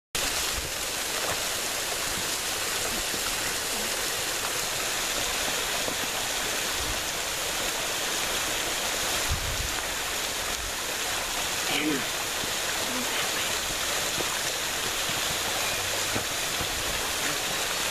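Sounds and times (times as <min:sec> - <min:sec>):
waterfall onto rocks: 0:00.2 - 0:17.9.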